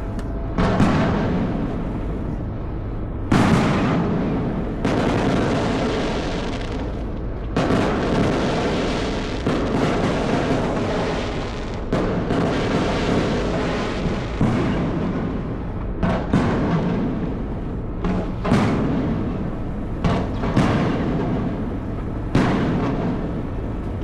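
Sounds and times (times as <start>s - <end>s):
fireworks crackling and booming: 0.0s - 24.0s.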